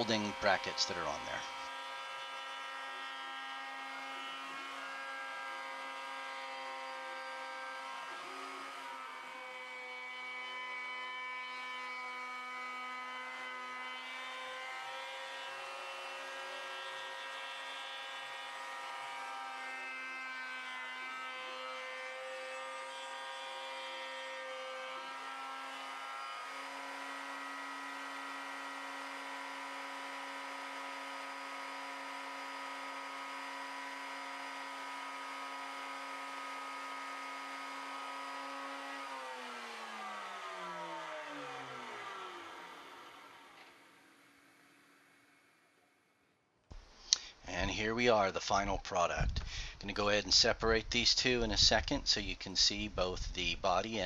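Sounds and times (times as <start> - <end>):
router motor whining: 0.0 - 46.0.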